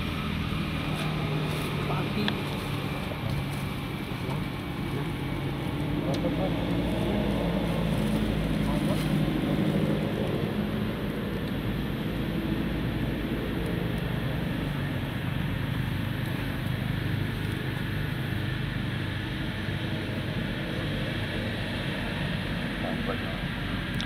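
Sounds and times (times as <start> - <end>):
faint wandering hum: 0.0 - 24.0
low background rumble: 0.0 - 24.0.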